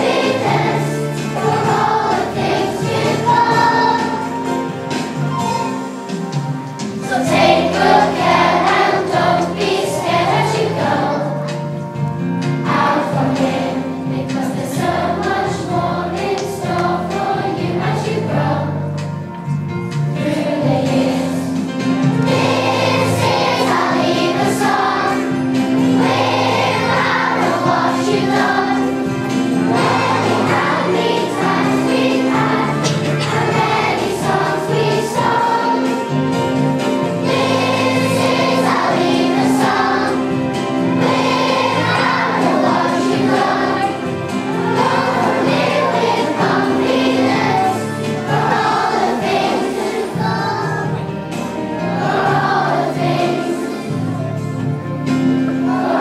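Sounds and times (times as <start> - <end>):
children's choir singing: 0.0 - 56.0
musical accompaniment with steady beat: 0.0 - 56.0.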